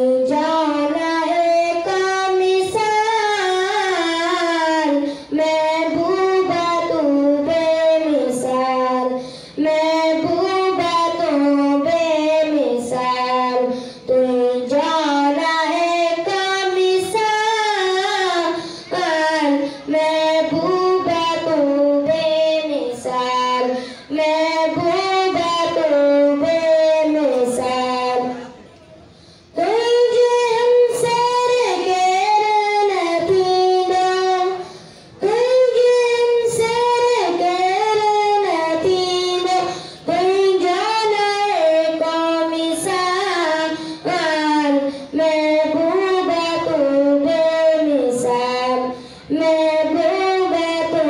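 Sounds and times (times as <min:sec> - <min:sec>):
boy singing unaccompanied: 0:00.0 - 0:28.6, 0:29.4 - 0:51.0.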